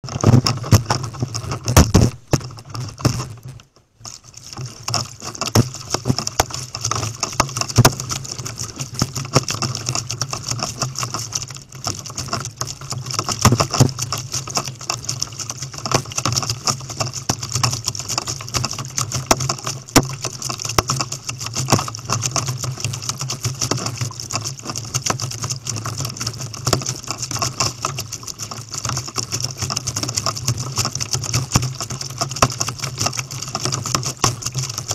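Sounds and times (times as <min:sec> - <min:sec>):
water splashing against kayak hull: 0:00.0 - 0:34.9.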